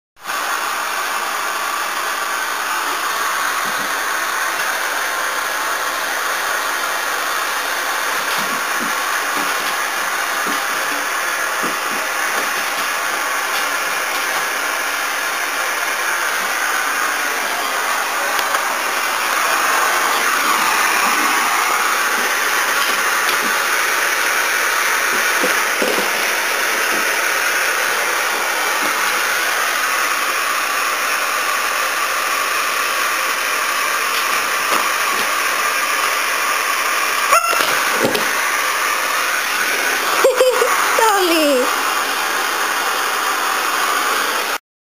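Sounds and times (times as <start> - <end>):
vacuum cleaner running: 0.2 - 44.6.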